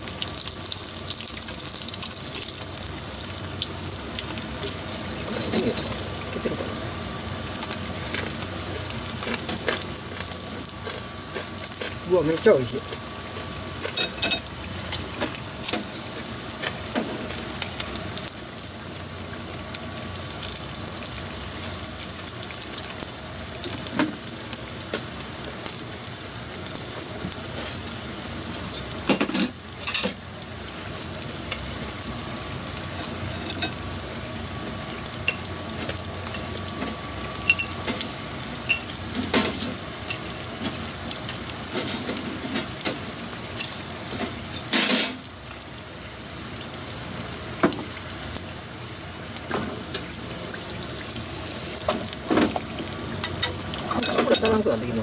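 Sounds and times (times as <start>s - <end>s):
fish frying in oil: 0.0s - 55.0s.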